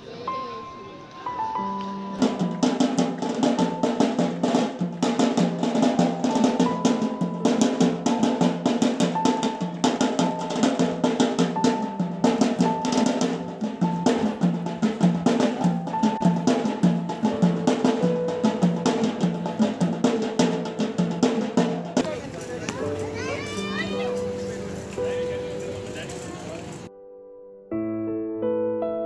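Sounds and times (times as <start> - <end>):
fast drumming: 2.0 - 26.9.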